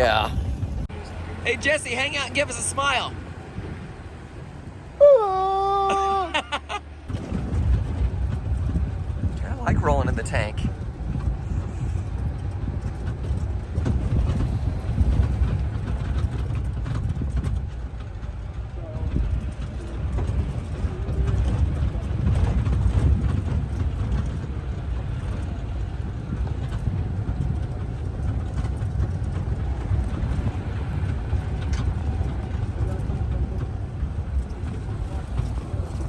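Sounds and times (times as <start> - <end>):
wind noise on microphone: 0.0 - 1.0, 6.4 - 36.0
vehicle rumble on rough trail: 0.0 - 36.0.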